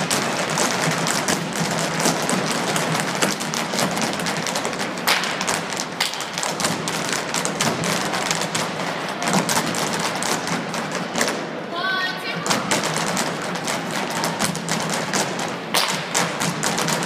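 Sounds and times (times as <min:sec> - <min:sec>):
hard shoes tapping on stage: 0:00.0 - 0:11.4, 0:12.4 - 0:17.0.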